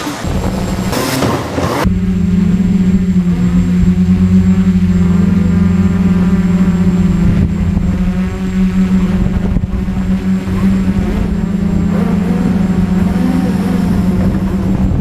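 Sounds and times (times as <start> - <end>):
drone propellers humming: 0.0 - 15.0
rough noisy sound: 0.0 - 15.0.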